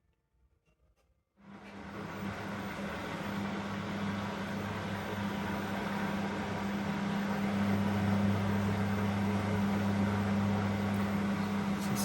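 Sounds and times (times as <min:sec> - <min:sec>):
drain pump humming: 0:01.4 - 0:12.0.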